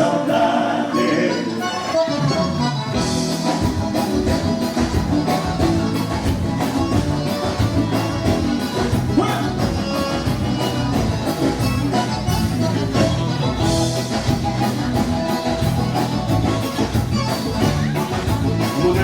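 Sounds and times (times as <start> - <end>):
live band playing dance music: 0.0 - 19.0
steady drum beat: 2.2 - 19.0.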